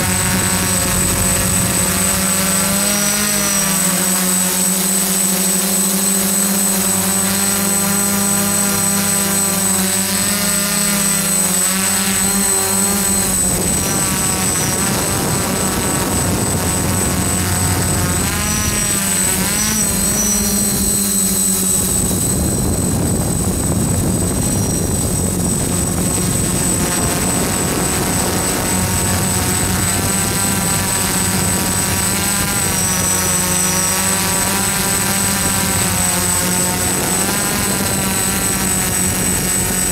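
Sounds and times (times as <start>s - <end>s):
drone motors whirring: 0.0s - 39.9s.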